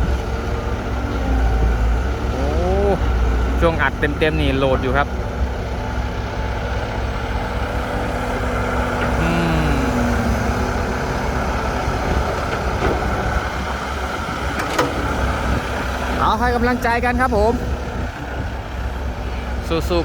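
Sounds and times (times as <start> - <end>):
excavator diesel engine under load: 0.0 - 20.0.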